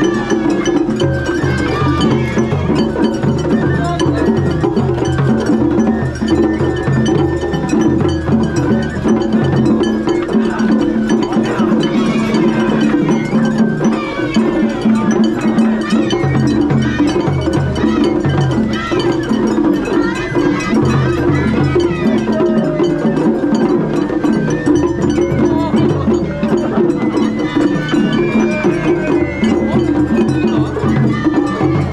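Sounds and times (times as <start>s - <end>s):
taiko drums: 0.0s - 31.9s.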